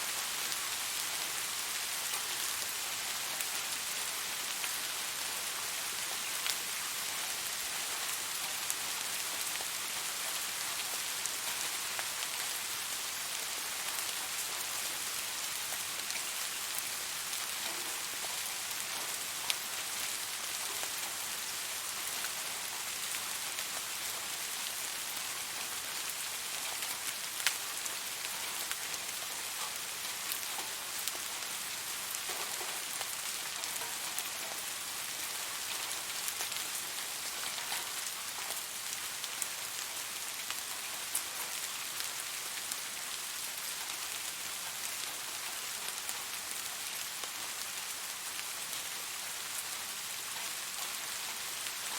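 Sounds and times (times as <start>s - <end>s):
steady rain hissing: 0.0s - 51.9s.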